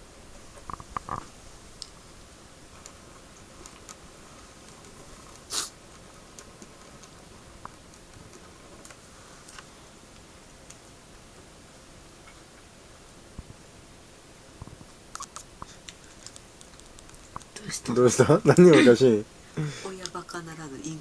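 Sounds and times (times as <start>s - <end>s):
rustling hiss: 0.0s - 21.0s.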